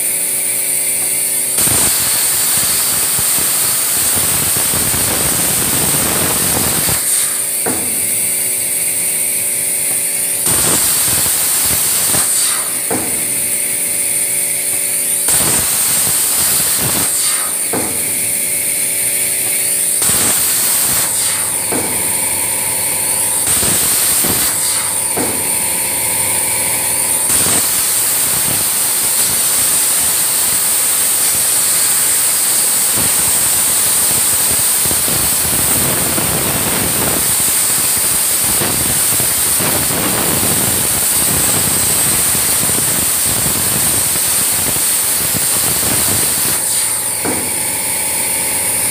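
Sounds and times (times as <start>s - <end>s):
plasma cutter hissing: 0.0s - 48.9s.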